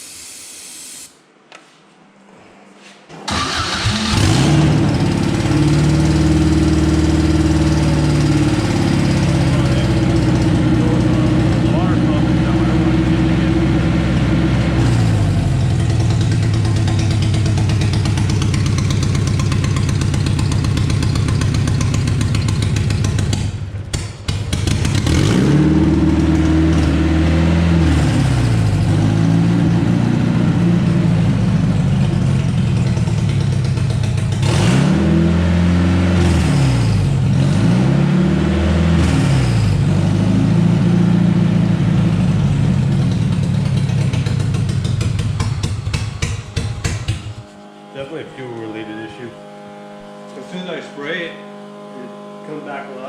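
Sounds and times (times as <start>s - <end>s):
car engine running roughly: 3.3s - 37.7s, 39.0s - 47.5s.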